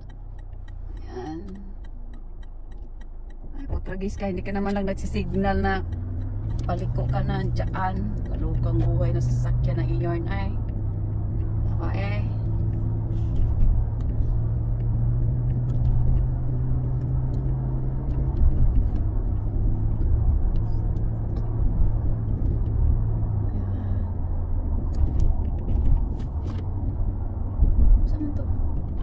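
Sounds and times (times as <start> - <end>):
car engine hum: 0.0 - 29.0
tyre noise on road: 0.0 - 29.0.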